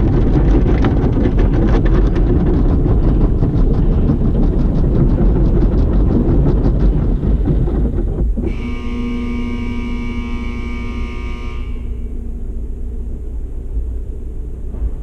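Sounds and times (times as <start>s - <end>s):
car wash equipment rumbling: 0.0s - 15.0s
multi-pitched whine: 0.0s - 15.0s.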